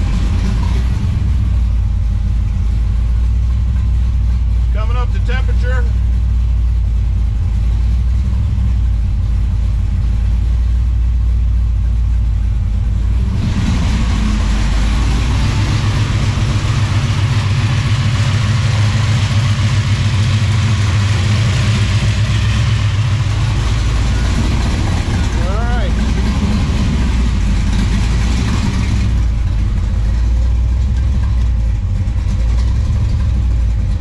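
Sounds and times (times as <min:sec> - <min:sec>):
supercharged engine idling: 0:00.0 - 0:34.0.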